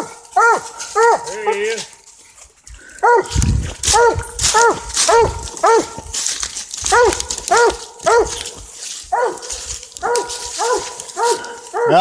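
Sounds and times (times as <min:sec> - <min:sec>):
dog barking: 0:00.0 - 0:01.7, 0:03.0 - 0:06.1, 0:06.8 - 0:12.0.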